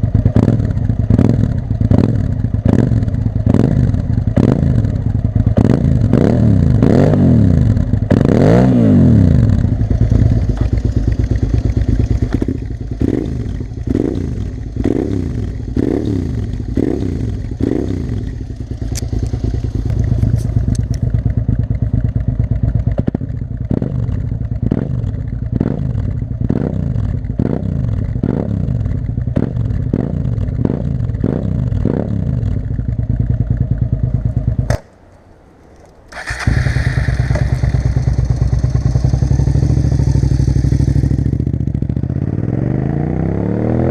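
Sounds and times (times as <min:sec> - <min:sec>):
motorcycle engine revving: 0:00.0 - 0:35.1, 0:35.8 - 0:43.9.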